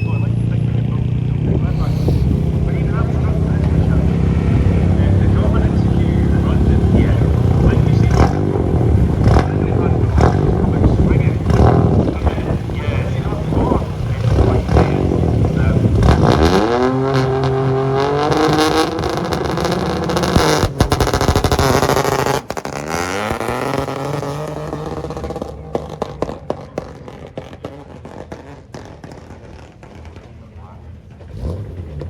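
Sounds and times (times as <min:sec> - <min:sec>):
rally car engine accelerating: 0:00.0 - 0:32.0
exhaust pops: 0:01.3 - 0:32.0.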